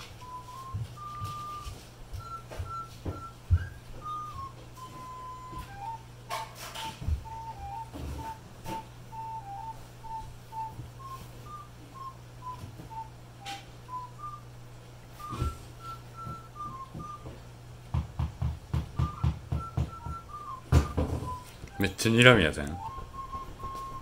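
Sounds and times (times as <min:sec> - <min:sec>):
slow whistle-like tune: 0:00.0 - 0:14.5, 0:15.1 - 0:17.4, 0:19.0 - 0:24.0
soft low thumps: 0:00.2 - 0:06.0, 0:07.0 - 0:13.1, 0:15.2 - 0:21.8, 0:22.7 - 0:24.0.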